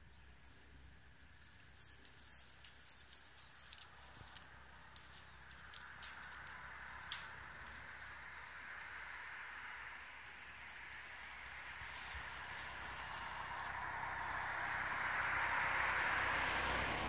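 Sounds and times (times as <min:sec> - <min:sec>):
deer cropping grass: 0:00.4 - 0:15.6.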